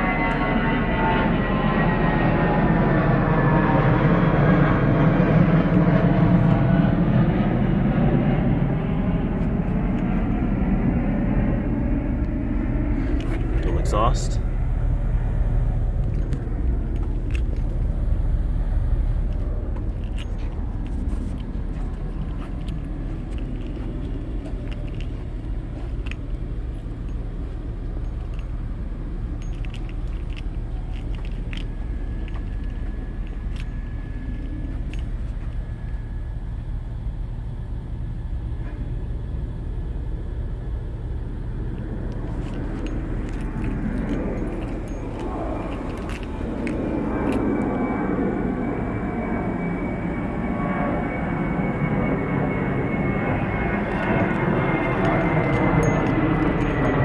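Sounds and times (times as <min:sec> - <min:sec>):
car engine idling: 0:04.7 - 0:57.0.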